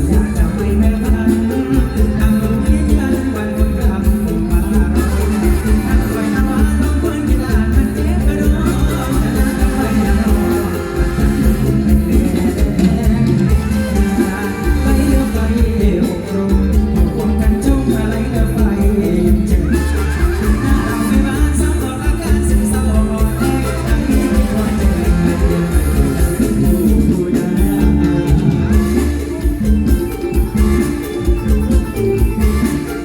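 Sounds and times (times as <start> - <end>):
live band music: 0.0 - 33.0
person singing: 0.0 - 33.0.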